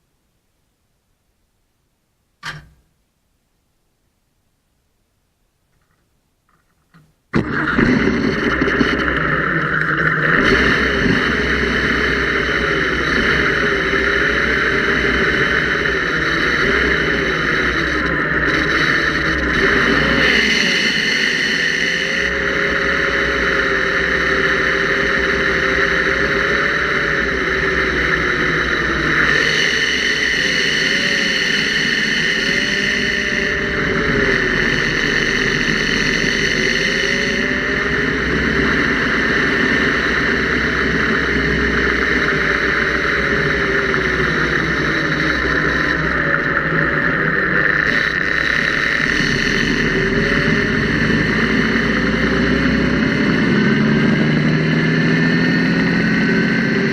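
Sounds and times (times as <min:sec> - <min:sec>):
engine running: 0:07.3 - 0:56.9.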